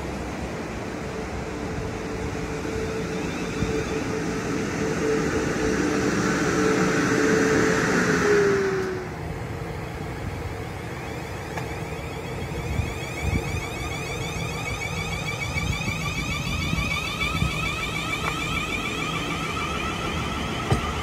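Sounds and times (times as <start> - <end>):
electric train whine: 0.0 - 21.0
wheel-on-rail rumble: 0.0 - 21.0.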